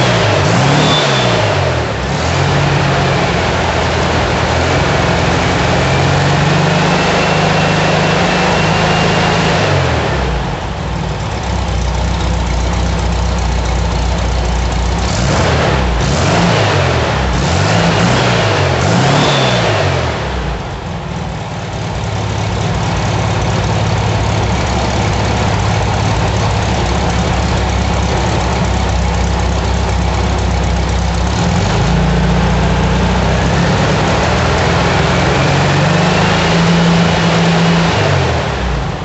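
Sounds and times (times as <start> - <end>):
air-cooled engine revving: 0.0 - 39.0.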